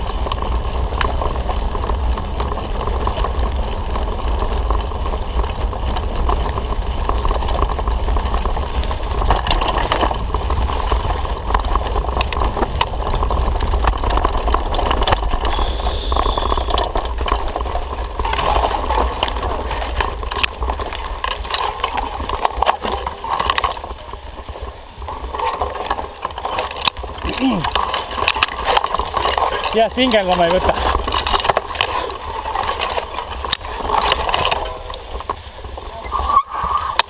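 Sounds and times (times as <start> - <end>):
bike rattling and clicking: 0.0 - 37.0
wind rumble on microphone: 0.0 - 37.0.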